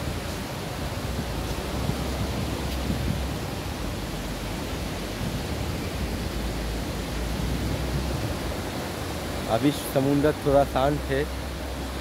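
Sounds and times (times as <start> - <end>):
sea waves breaking on beach: 0.0 - 12.0.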